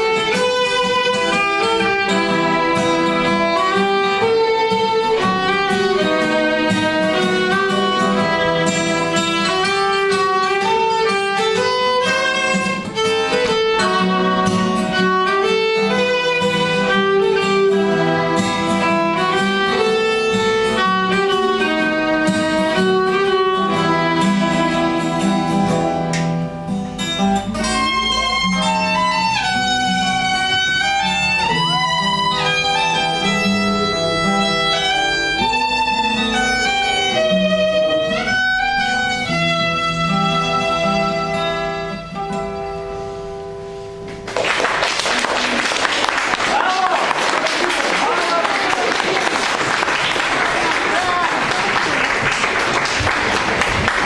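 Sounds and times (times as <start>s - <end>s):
violin melody: 0.0s - 43.5s
acoustic guitar plucked notes: 0.0s - 44.4s.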